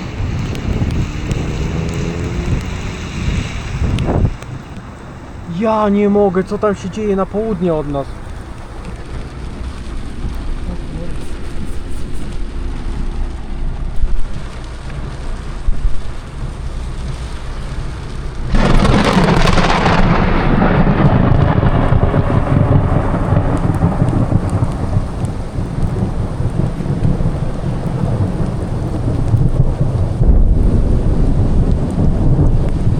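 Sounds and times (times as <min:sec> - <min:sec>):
thunder rumbling and cracking: 0:00.0 - 0:32.9.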